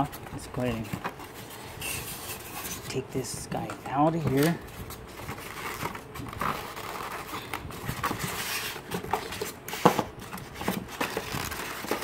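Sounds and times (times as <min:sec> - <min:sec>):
plastic scraping against foam: 0:00.0 - 0:03.0, 0:03.7 - 0:12.0.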